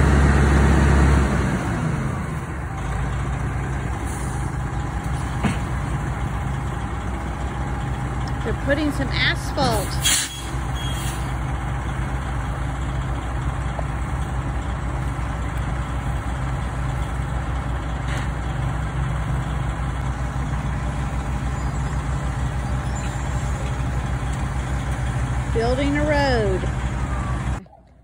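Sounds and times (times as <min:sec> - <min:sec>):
heavy diesel engines droning: 0:00.0 - 0:27.6.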